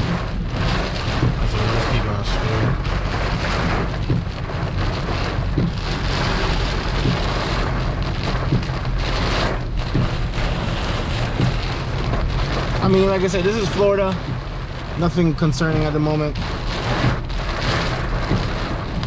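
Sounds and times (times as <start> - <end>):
car humming: 0.0 - 19.0
rain on a car: 0.0 - 19.0
tyres hissing on wet road: 0.0 - 19.0.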